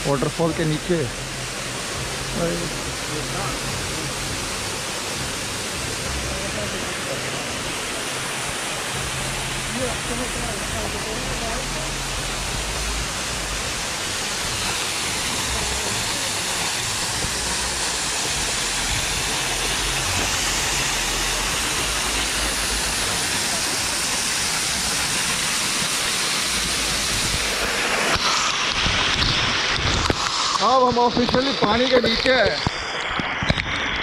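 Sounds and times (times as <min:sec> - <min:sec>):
waterfall splashing over rocks: 0:00.0 - 0:34.0.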